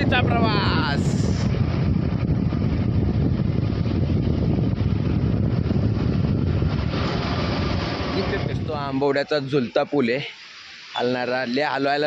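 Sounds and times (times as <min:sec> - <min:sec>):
wind buffeting microphone: 0:00.0 - 0:10.0
road noise: 0:00.0 - 0:12.0.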